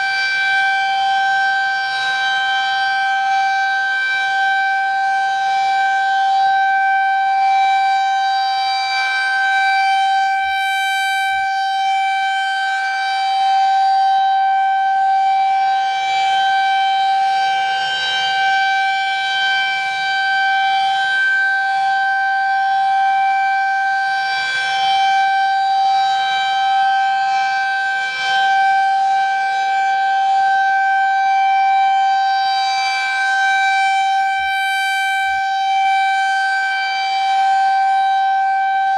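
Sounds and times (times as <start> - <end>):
electronic warning siren steady tone: 0.0 - 38.9.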